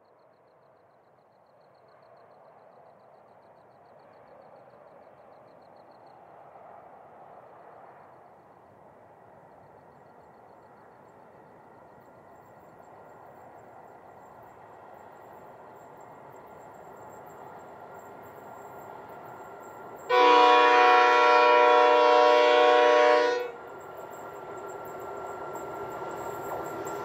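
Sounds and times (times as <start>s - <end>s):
freight train rumbling: 4.0s - 27.0s.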